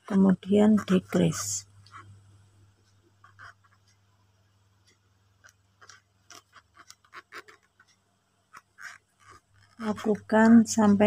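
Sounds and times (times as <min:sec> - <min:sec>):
crochet hook scratching yarn: 0:00.0 - 0:11.0.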